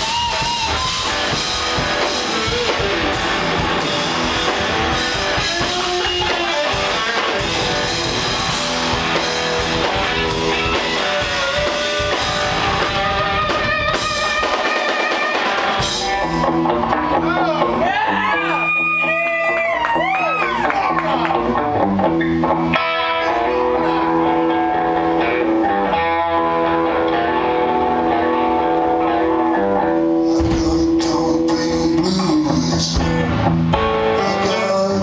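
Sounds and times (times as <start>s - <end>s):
drum kit: 0.0s - 35.0s
electric guitar lead lines: 0.0s - 35.0s.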